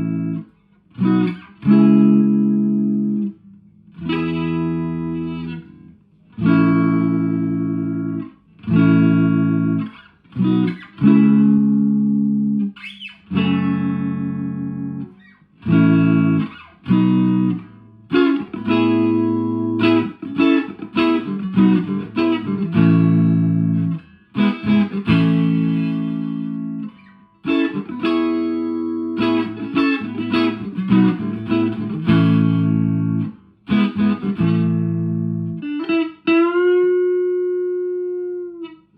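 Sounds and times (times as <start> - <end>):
electric guitar chords and riffs: 0.0 - 38.9.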